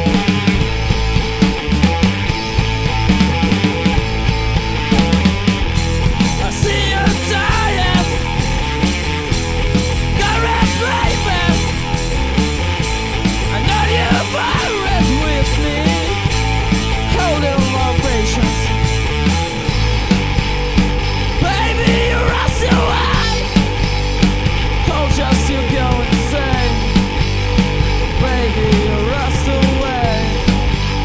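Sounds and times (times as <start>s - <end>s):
live heavy rock band: 0.0s - 31.0s.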